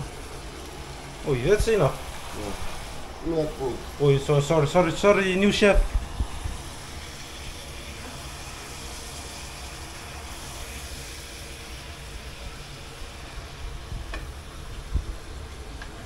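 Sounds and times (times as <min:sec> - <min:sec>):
curry hissing in a pot: 0:00.0 - 0:16.0.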